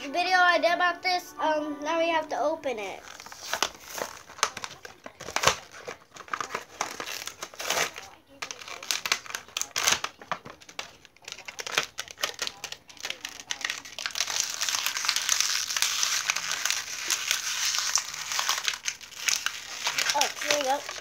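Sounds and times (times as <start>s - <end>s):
plastic packaging crinkling: 2.8s - 21.0s.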